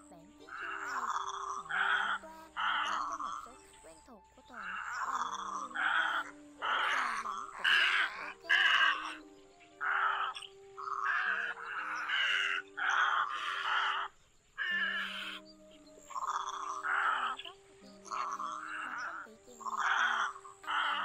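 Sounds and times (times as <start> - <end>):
background music with held notes: 0.0 - 21.0
egrets croaking: 0.0 - 21.0.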